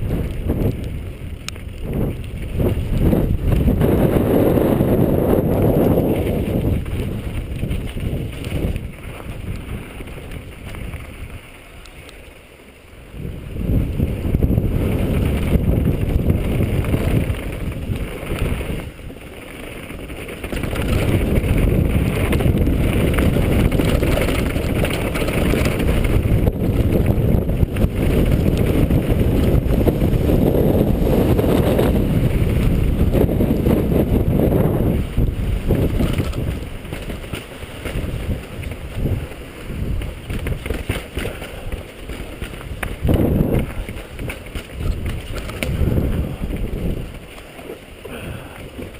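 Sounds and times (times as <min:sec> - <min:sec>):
wind buffeting microphone: 0:00.0 - 0:11.8, 0:13.0 - 0:48.9.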